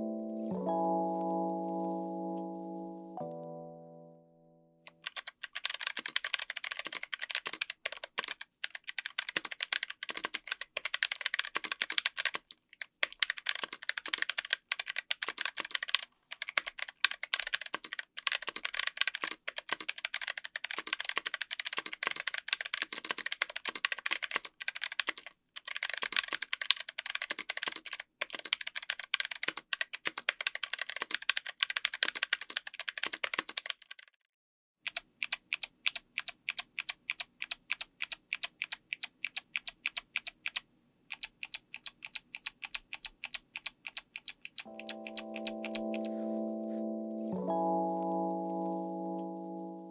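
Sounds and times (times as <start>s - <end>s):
clicky keyboard typing: 4.9s - 34.2s, 34.8s - 46.2s.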